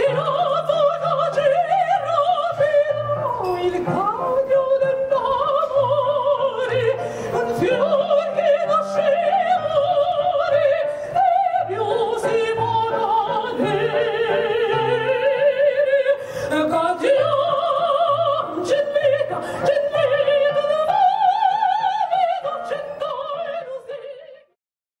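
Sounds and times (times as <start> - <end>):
woman singing operatically: 0.0 - 24.6.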